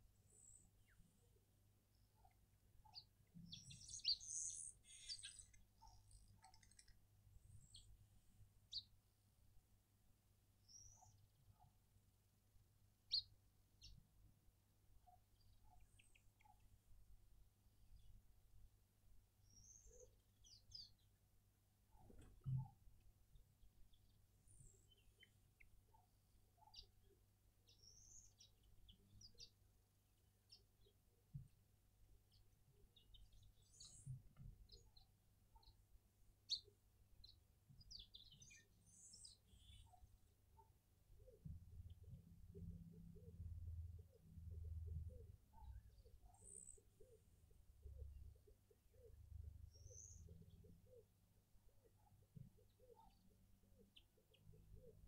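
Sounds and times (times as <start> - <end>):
small birds chirping: 0.0 - 9.0, 10.3 - 12.1, 12.9 - 14.3, 14.9 - 55.0.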